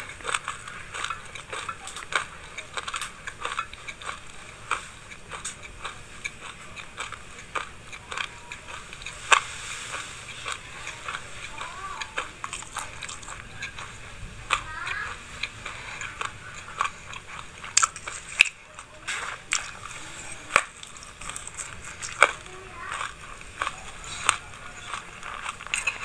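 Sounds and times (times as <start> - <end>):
chewing crunchy seeds: 0.0 - 26.0.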